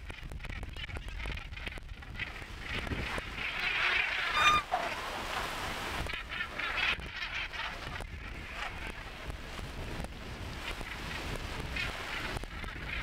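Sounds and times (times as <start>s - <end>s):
sea water: 0.0s - 13.0s
wind: 0.0s - 13.0s
gannets calling with harsh croaks: 0.1s - 9.5s, 10.8s - 13.0s.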